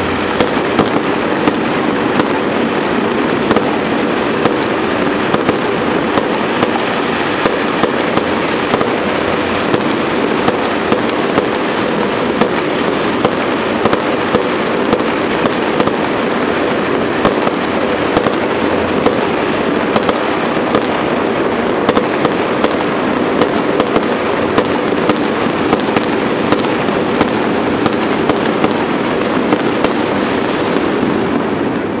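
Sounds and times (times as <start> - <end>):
fireworks bangs: 0.0 - 32.0
fireworks crackling: 0.0 - 32.0.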